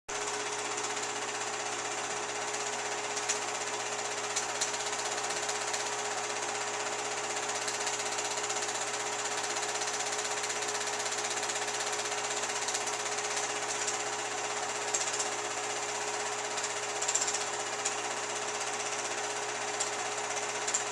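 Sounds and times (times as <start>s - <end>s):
film projector running: 0.1s - 20.9s.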